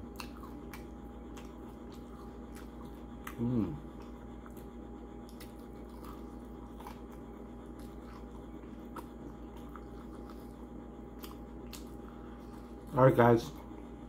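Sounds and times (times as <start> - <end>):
chewing: 0.0 - 13.8
steady low hum: 0.0 - 14.0.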